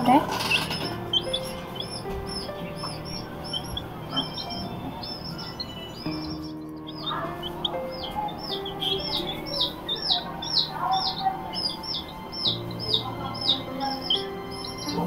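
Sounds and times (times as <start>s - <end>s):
background music with held notes: 0.0s - 15.0s
chick peeping: 0.0s - 15.0s.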